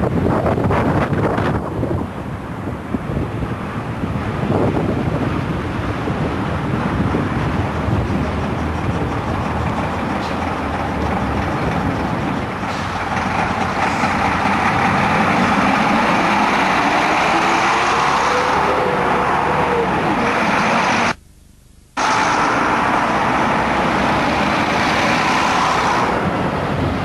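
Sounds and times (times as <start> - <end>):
bus engine rumbling past: 0.0 - 21.2, 22.0 - 27.0.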